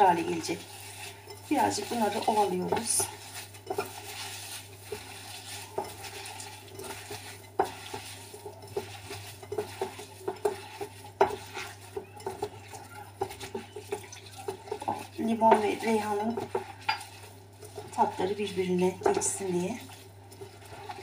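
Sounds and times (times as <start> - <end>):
hands rubbing leaves in a bowl: 0.0 - 21.0.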